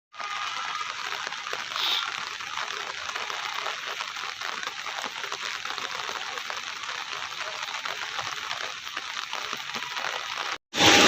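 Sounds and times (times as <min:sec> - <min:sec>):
rain pattering: 0:00.1 - 0:11.0.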